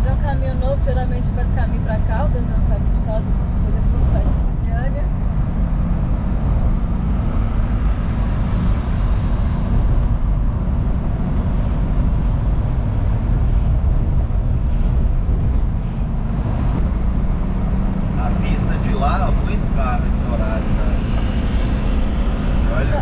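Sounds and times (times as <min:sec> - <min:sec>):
van engine and road rumble: 0:00.0 - 0:23.0.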